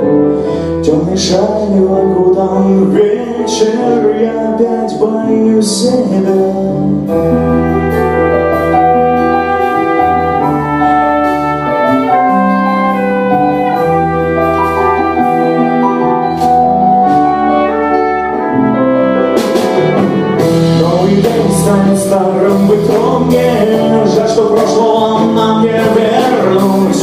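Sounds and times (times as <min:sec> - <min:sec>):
instrumental pop music: 0:00.0 - 0:27.0.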